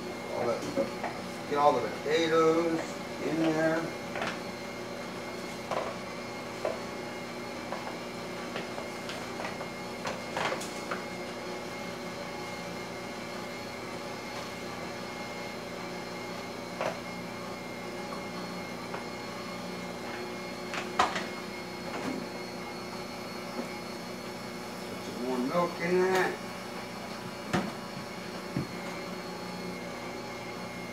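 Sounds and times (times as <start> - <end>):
stand mixer motor hum: 0.0 - 30.9.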